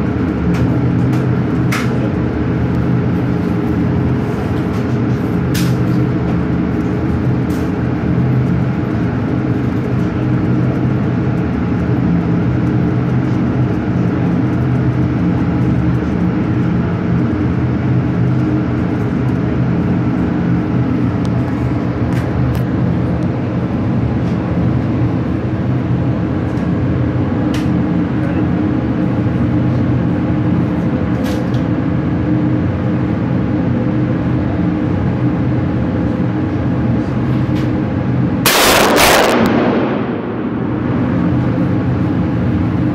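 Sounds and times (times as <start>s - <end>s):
loud machinery drone: 0.0s - 42.9s.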